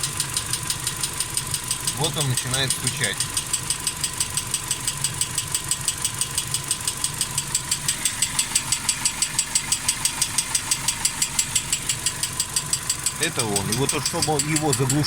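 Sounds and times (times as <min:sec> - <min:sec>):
car engine idling: 0:00.0 - 0:15.0
rapid engine ticking: 0:00.0 - 0:15.0.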